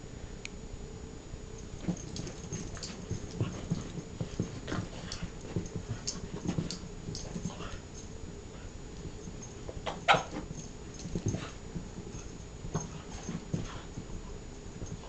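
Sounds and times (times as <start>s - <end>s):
dog paws scrabbling on rug: 1.6s - 15.0s.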